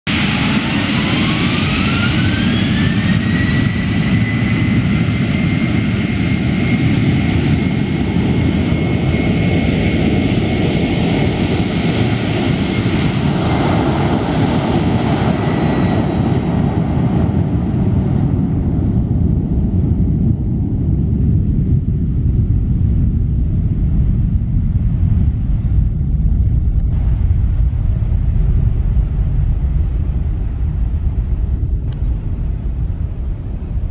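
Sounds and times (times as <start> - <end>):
jet engine heavy rumble: 0.1 - 33.9
jet engine whine: 0.1 - 33.9.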